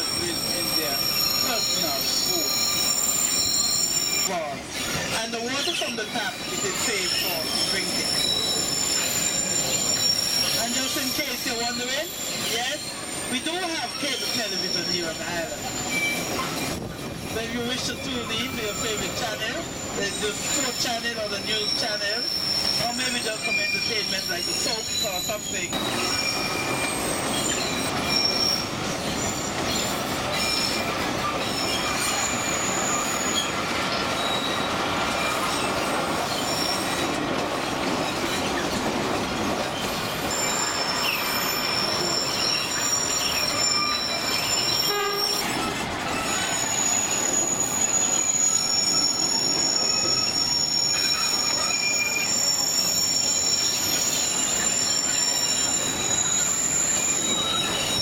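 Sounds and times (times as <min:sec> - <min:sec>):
high-pitched wheel squeal: 0:00.0 - 0:16.9, 0:17.7 - 0:37.2, 0:39.4 - 0:58.0
train wheels rumbling on rail: 0:00.0 - 0:58.0.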